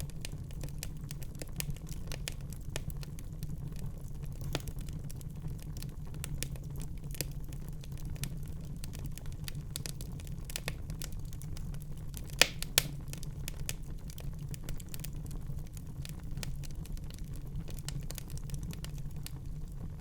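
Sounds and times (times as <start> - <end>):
fire pops and snaps: 0.0 - 20.0
low rumble of flames: 0.0 - 20.0.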